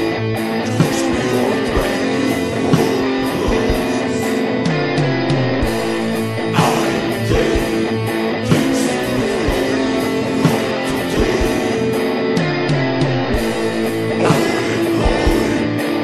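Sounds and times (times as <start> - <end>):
slow held guitar chords: 0.0 - 16.0.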